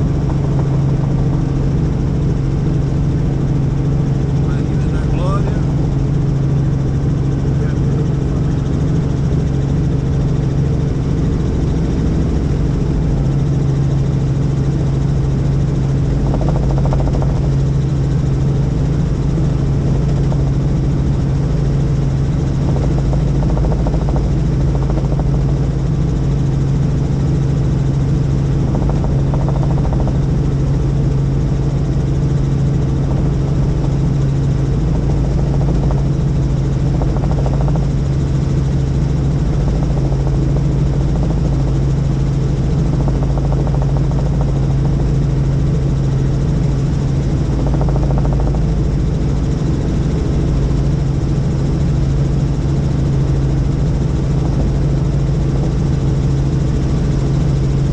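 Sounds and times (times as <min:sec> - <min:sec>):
helicopter engine and rotor drone: 0:00.0 - 0:57.9.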